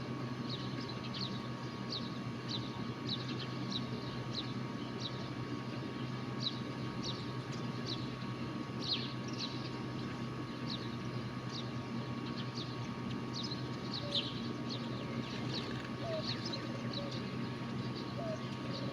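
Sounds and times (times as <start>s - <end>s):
low background hum: 0.0s - 18.9s.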